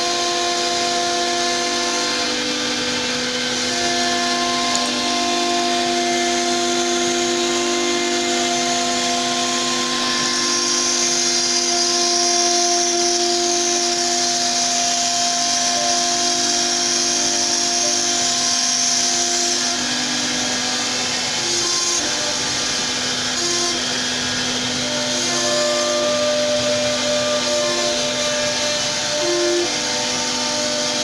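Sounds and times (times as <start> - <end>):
router spindle cutting wood: 0.0 - 31.0.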